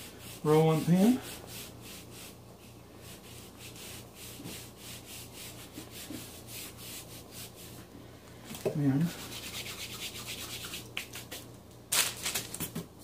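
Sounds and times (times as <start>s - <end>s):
hands rubbing flour on rolling pin: 0.0s - 7.9s, 8.7s - 11.5s.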